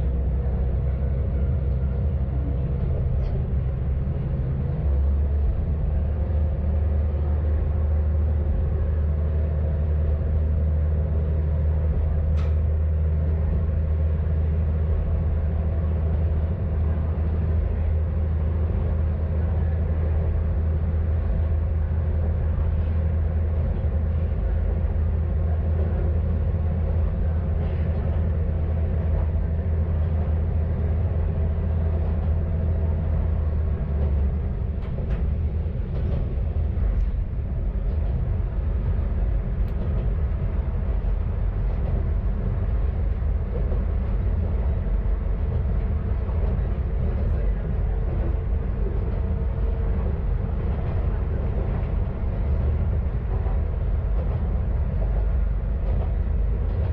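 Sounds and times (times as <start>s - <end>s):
diesel railcar engine drone: 0.0s - 56.9s
rail noise: 0.0s - 56.9s.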